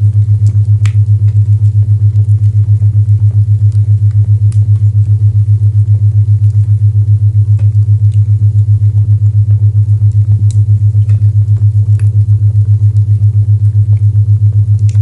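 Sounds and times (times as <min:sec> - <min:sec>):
low pulsing tone: 0:00.0 - 0:15.0.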